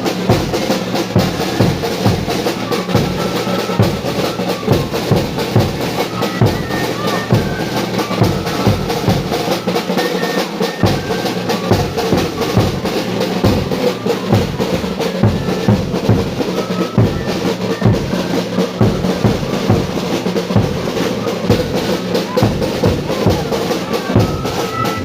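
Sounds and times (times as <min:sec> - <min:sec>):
drums beating: 0:00.0 - 0:25.0.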